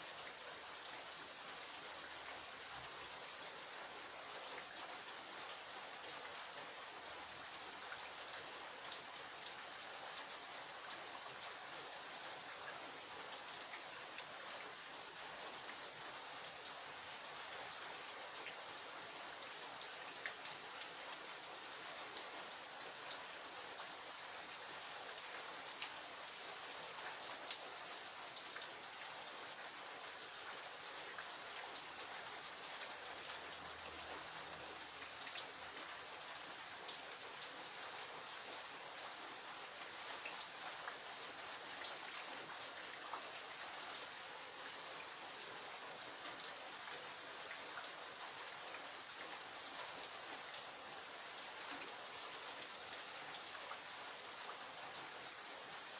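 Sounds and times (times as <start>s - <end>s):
rain drops pattering: 0.1s - 55.9s.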